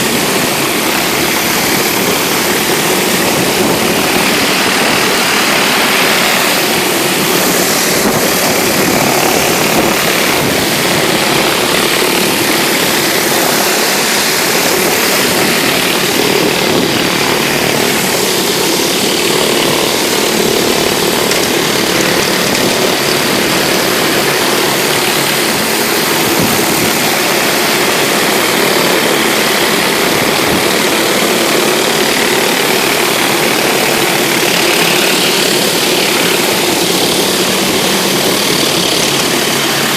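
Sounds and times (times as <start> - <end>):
pressure washer engine drone: 0.0 - 39.9
water jet hissing on concrete: 0.0 - 39.9.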